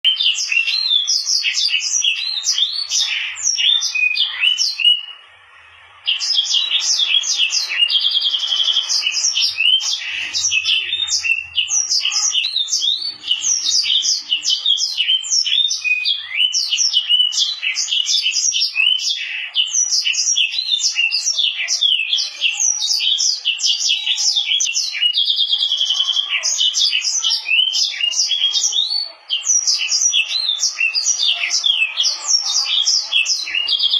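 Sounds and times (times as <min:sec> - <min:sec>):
canary singing chirps and trills: 0:00.0 - 0:33.9.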